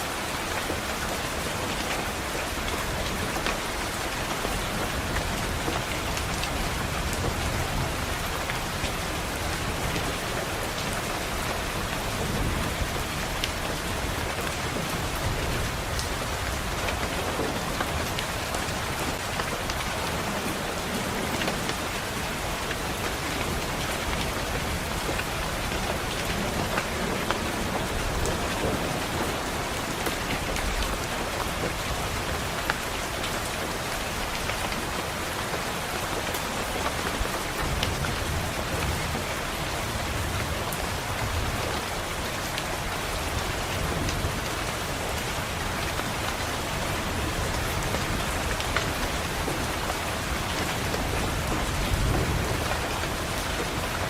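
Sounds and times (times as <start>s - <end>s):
rain pattering on window: 0.0s - 54.0s.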